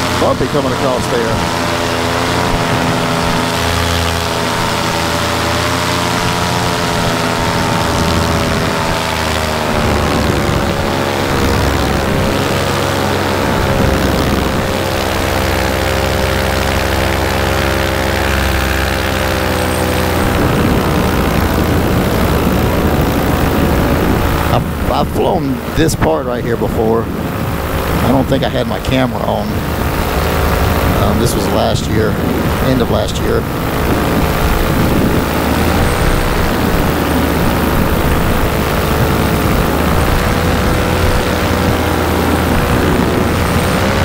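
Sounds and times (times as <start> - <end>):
engine and propeller running: 0.0 - 44.0.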